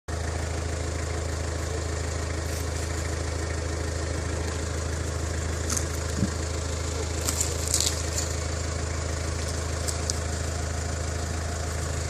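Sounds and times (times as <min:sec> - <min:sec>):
engine idling hum: 0:00.1 - 0:12.0.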